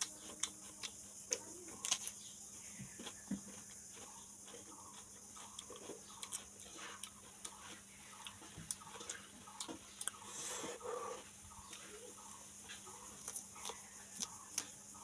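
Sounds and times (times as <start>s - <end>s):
person chewing cucumber crunching: 0.0s - 2.3s, 2.9s - 15.0s
steady high-pitched hiss: 0.0s - 15.0s.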